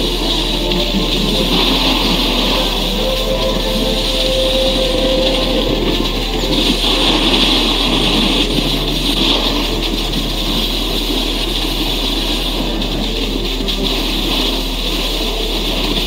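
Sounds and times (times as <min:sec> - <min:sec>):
low hum: 0:00.0 - 0:16.0
snowboards scraping over snow: 0:00.0 - 0:16.0.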